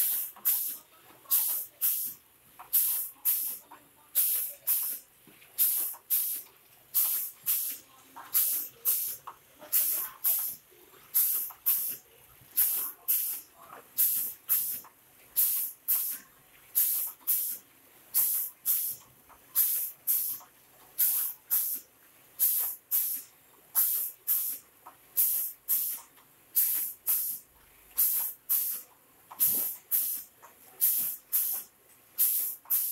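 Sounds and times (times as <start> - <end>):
air hiss bursts: 0.0 - 3.6, 4.2 - 5.0, 5.6 - 10.6, 11.2 - 12.0, 12.6 - 16.2, 16.8 - 19.0, 19.6 - 20.4, 21.0 - 24.6, 25.2 - 27.4, 28.0 - 32.9.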